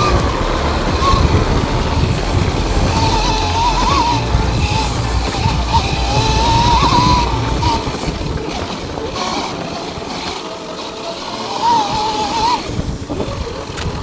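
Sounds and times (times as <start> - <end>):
electric motor whine: 0.0 - 14.0
wind and tyres rumbling: 0.0 - 14.0.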